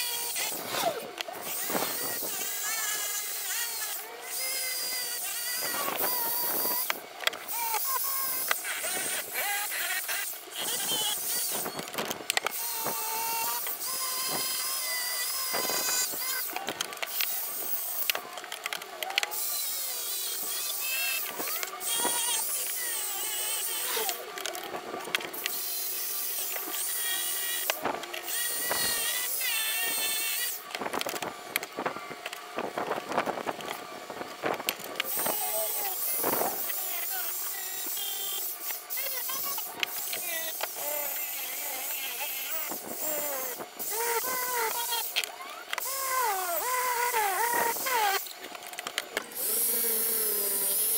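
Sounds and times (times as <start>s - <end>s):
electric drill with wire brush scrubbing: 0.0s - 50.9s.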